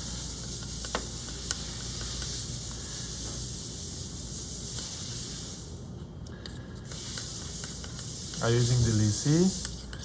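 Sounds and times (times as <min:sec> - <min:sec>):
steady hiss: 0:00.0 - 0:05.9, 0:06.6 - 0:10.0.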